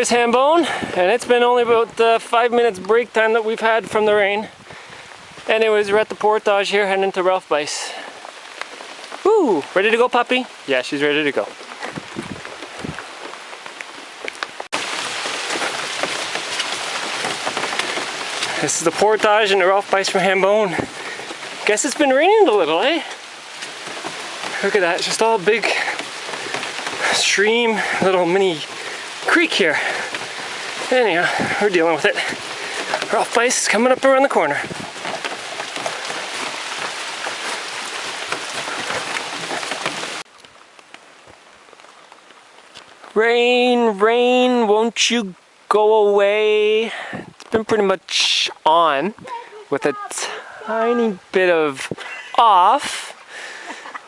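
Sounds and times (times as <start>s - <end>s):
scattered water drips: 0.0s - 43.4s
steady rain falling: 0.0s - 54.0s
ticks of raindrops: 0.0s - 54.0s.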